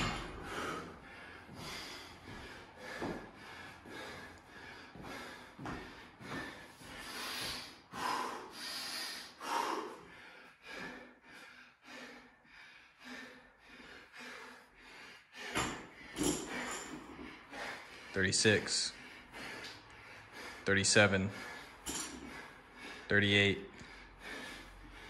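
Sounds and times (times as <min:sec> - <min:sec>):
man panting heavily: 0:00.0 - 0:25.0.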